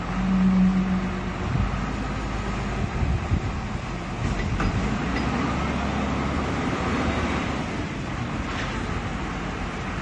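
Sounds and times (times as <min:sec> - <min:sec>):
diesel engine rumble: 0:00.0 - 0:10.0.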